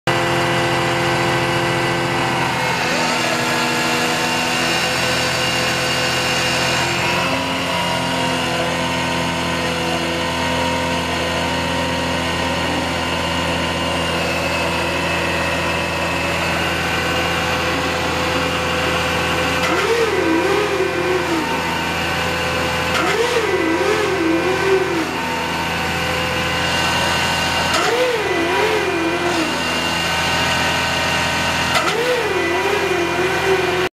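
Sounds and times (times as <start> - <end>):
drill rig engine running: 0.1 - 33.9.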